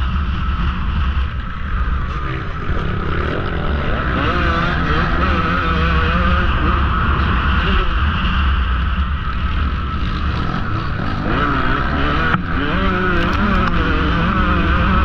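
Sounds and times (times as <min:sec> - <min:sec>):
two-stroke engine revving: 0:01.9 - 0:08.8, 0:09.8 - 0:15.0.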